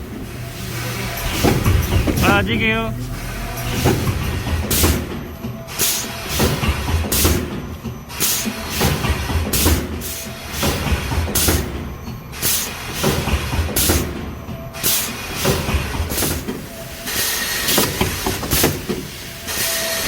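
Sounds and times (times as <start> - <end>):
packaging machine rumbling: 0.0 - 20.0.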